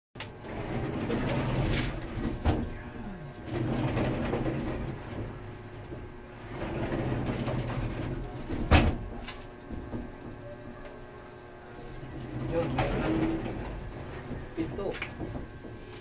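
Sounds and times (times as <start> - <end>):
sliding door rolling on track: 0.2 - 10.5, 11.7 - 16.0.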